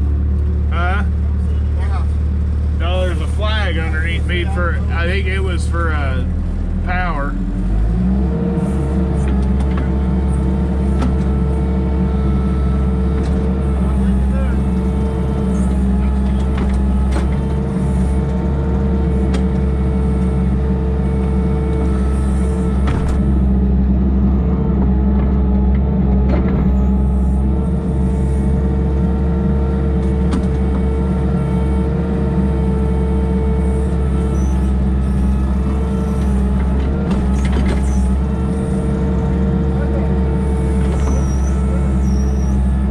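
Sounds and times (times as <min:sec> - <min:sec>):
steady whine: 0:00.0 - 0:42.9
machine engine running under load: 0:07.4 - 0:42.9.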